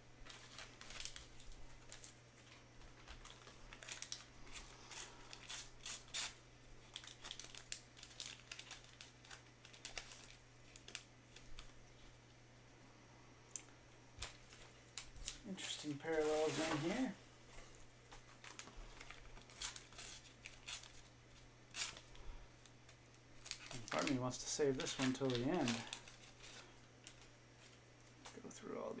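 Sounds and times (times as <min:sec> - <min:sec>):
low steady hum: 0:00.0 - 0:29.0
wrappers crinkling and tearing: 0:00.2 - 0:12.1, 0:14.2 - 0:28.5.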